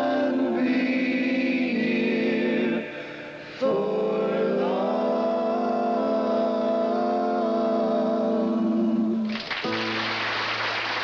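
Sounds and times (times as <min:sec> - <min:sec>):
vocal group singing close harmony: 0:00.0 - 0:10.0.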